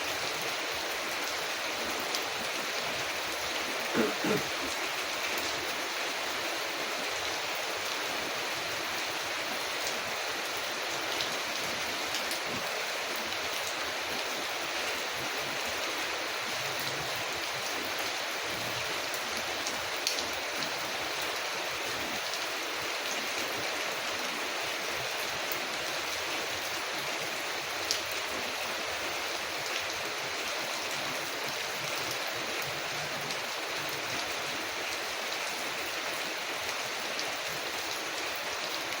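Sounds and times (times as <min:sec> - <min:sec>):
rain on a window: 0:00.0 - 0:39.0.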